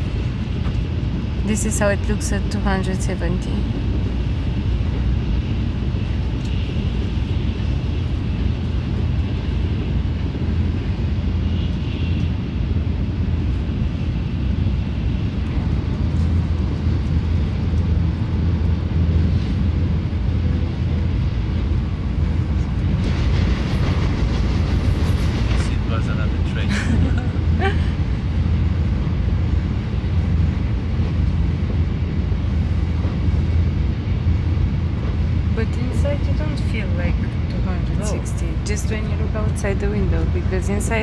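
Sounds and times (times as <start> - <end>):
train interior rumble: 0.0 - 41.0.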